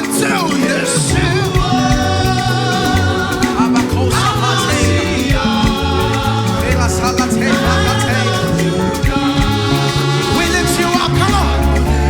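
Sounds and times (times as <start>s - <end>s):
gospel band playing: 0.0s - 12.0s
people singing: 0.0s - 12.0s.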